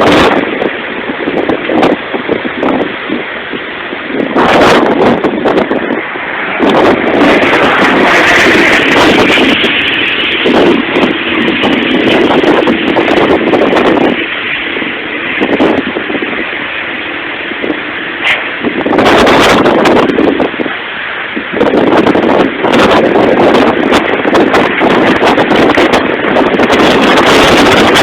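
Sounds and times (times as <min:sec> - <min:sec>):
strong wind on microphone: 0:00.0 - 0:28.0.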